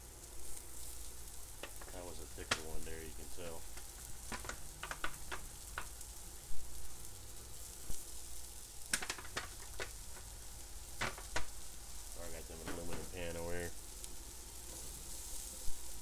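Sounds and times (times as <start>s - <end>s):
patties sizzling on griddle: 0.0s - 16.0s.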